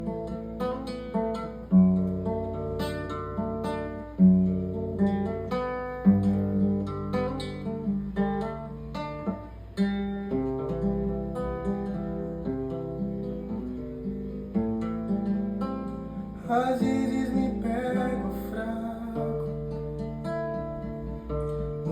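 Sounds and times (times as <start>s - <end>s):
acoustic guitar picking: 0.0s - 21.9s.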